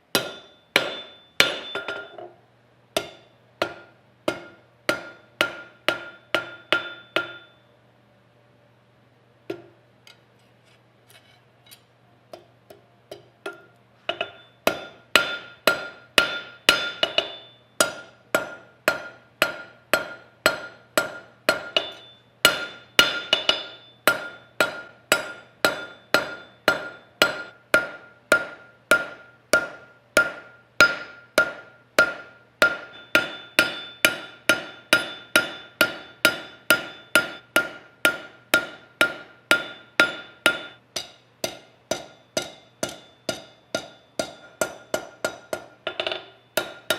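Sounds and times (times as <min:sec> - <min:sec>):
hammer striking steel on anvil: 0:00.0 - 0:02.4, 0:03.0 - 0:07.7, 0:09.5 - 0:10.3, 0:11.7 - 0:46.9.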